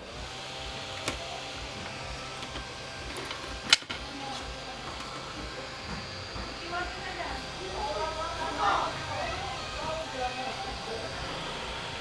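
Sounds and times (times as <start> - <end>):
electric air blower running: 0.0 - 12.0.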